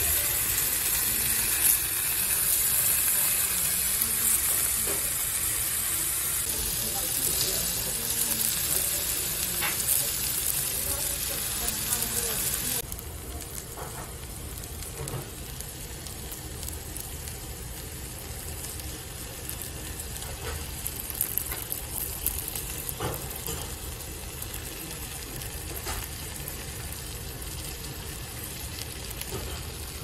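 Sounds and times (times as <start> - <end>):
meat sizzling on hot plate: 0.0 - 30.0.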